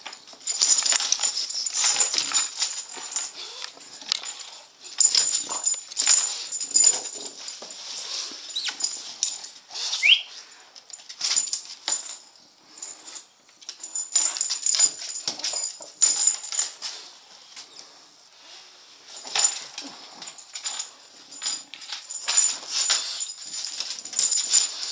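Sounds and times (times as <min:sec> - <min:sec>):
metal collar tags jingling: 0:00.0 - 0:17.1, 0:19.1 - 0:24.9.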